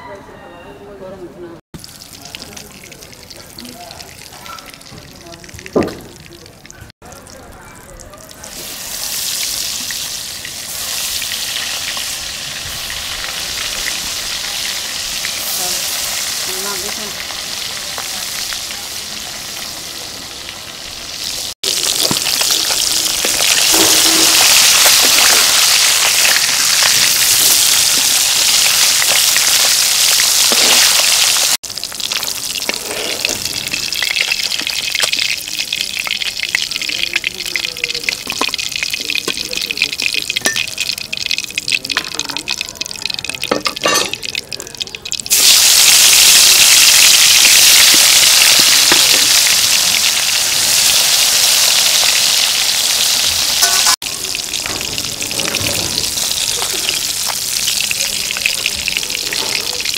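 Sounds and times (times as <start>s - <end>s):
fish sizzling in hot oil: 1.8s - 6.5s, 7.1s - 59.9s.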